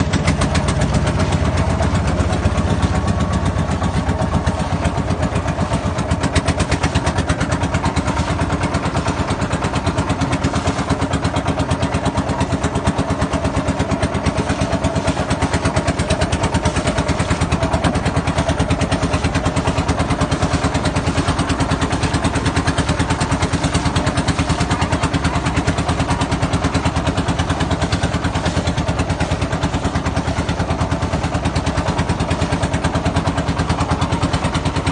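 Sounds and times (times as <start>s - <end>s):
boat engine chugging: 0.0s - 34.9s.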